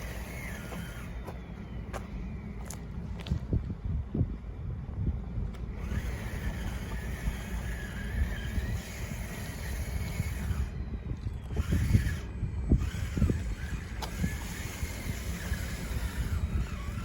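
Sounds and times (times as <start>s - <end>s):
electric motors and gears whining: 0.0s - 17.0s.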